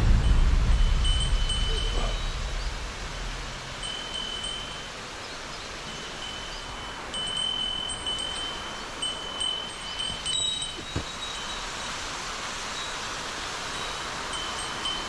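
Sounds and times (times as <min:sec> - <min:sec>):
thin high ringing tone: 0:00.0 - 0:12.0, 0:12.6 - 0:15.0
waterfall rushing: 0:00.0 - 0:15.0.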